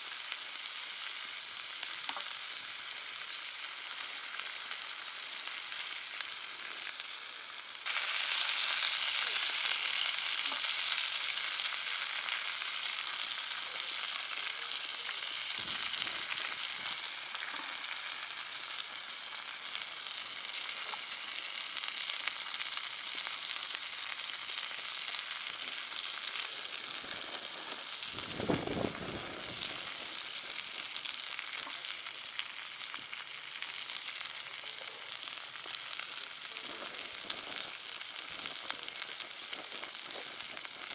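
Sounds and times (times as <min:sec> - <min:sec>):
meat sizzling on a grill pan: 0:00.0 - 0:40.9.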